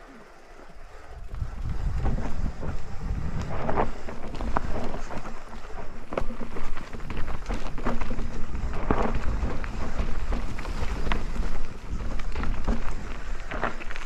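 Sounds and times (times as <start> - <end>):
wind buffeting microphone: 1.0 - 14.0
bike rattling: 1.2 - 14.0
bike tyres clicking and knocking: 1.3 - 14.0.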